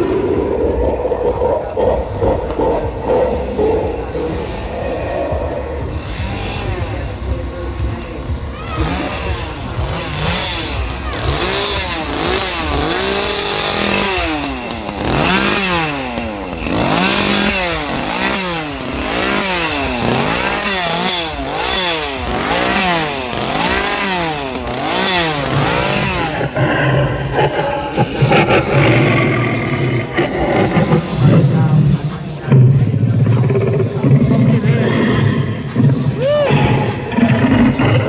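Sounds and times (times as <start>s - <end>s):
chainsaw engine revving: 0.0s - 38.0s.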